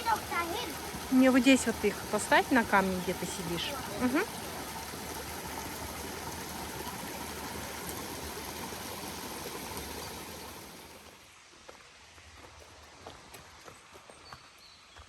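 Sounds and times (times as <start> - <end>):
stream running over stones: 0.0 - 15.0.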